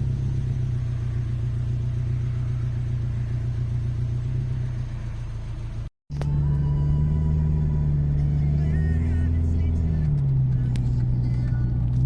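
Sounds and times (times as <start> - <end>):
car engine with deep exhaust note: 0.0 - 12.0.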